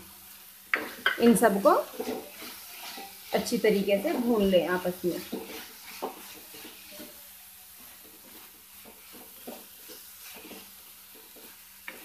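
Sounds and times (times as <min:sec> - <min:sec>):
faint sizzle: 0:00.0 - 0:12.0
spatula scraping pan: 0:00.0 - 0:12.0.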